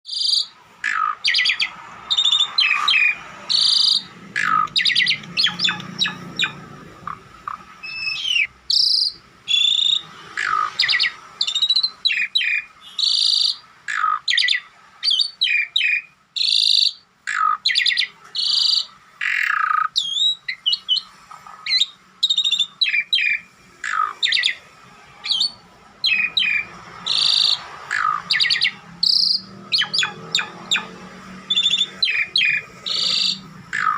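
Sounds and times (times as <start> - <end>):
starling whistling and chirping: 0.1 - 6.6, 7.5 - 24.6, 25.2 - 33.9.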